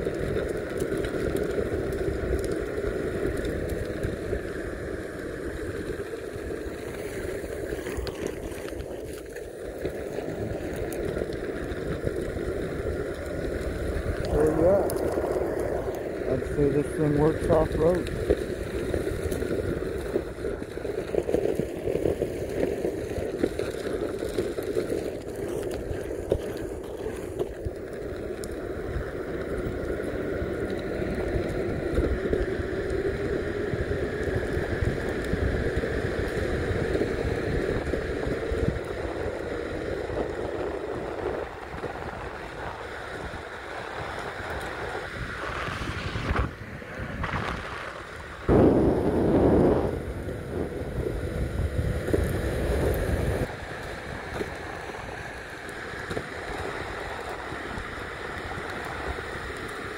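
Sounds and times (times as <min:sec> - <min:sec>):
skateboard wheels rolling rumble: 0:00.0 - 0:59.9
wind buffeting microphone: 0:00.0 - 0:59.9.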